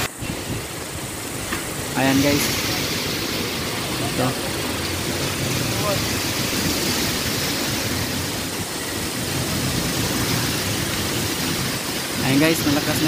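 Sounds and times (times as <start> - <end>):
strong wind rushing: 0.0 - 13.0.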